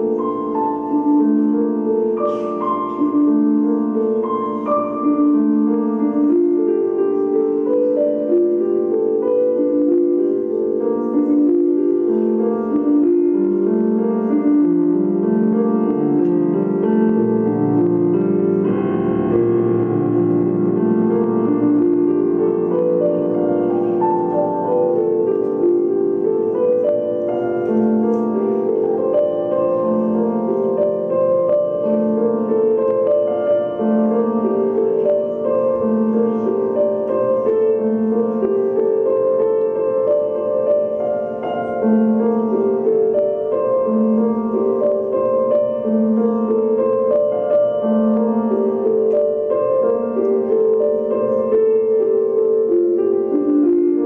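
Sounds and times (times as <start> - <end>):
instrumental piano music: 0.0 - 54.0.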